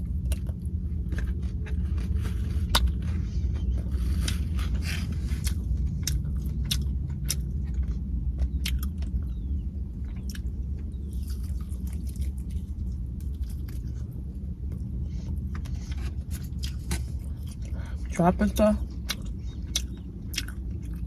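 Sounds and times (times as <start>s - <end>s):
person chewing crunchy food: 0.0s - 21.0s
steady low hum: 0.0s - 21.0s.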